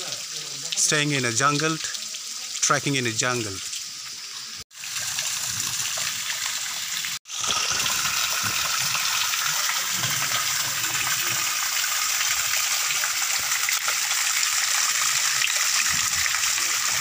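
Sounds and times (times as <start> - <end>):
small waterfall splashing: 0.0 - 17.0.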